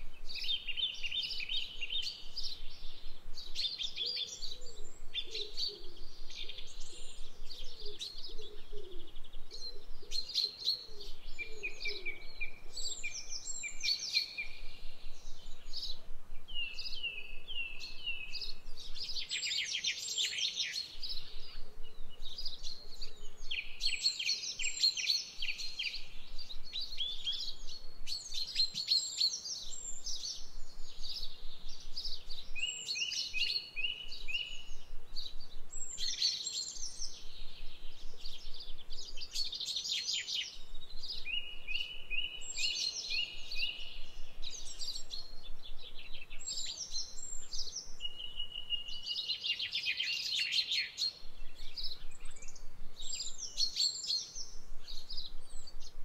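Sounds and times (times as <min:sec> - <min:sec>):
birds singing and chirping: 0:00.0 - 0:56.0
lower bird calls: 0:00.0 - 0:56.0.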